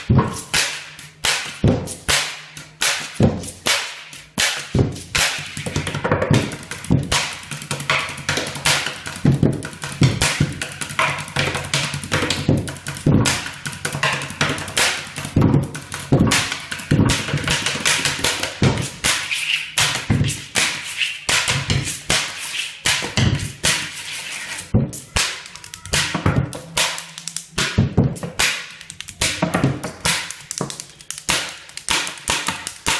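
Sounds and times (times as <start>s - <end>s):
pens tapping drum-like beat: 0.0s - 32.9s.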